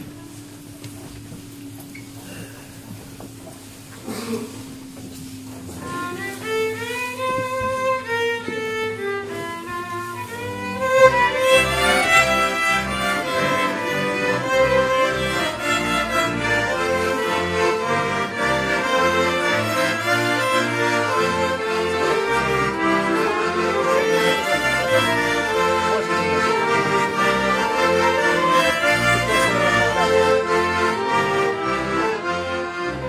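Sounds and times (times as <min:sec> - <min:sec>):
folk band playing: 0:00.0 - 0:33.0
steady low beat: 0:00.0 - 0:33.0
violin melody: 0:04.6 - 0:33.0.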